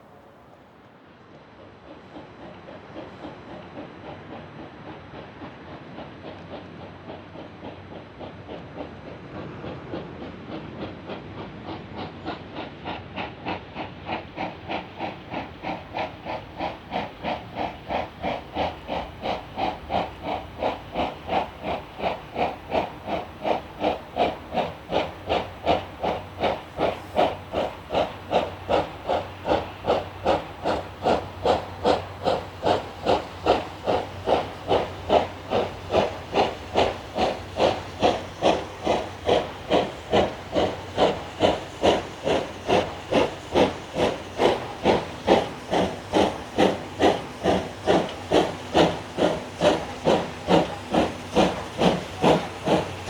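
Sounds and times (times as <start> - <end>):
steam locomotive exhaust beats: 0.0 - 53.0
steam hissing: 10.5 - 53.0.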